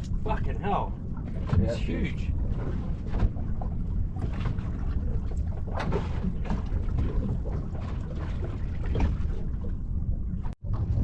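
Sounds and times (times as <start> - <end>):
water lapping against hull: 0.0 - 11.0
wind rumbling on microphone: 0.0 - 11.0.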